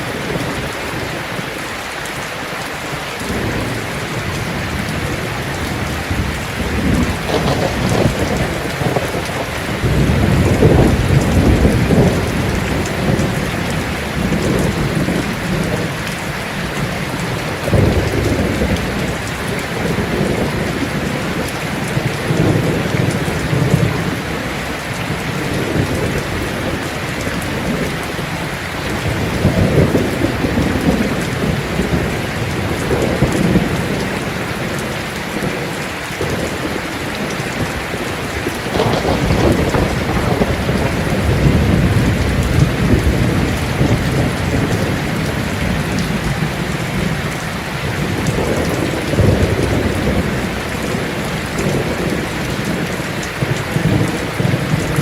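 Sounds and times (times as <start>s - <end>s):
heavy rain on a tin roof: 0.0s - 55.0s
rolling thunder: 3.2s - 55.0s.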